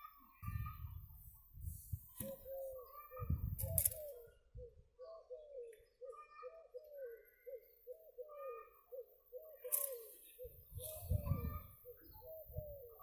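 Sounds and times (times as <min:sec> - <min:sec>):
bird calling: 0:02.1 - 0:13.0.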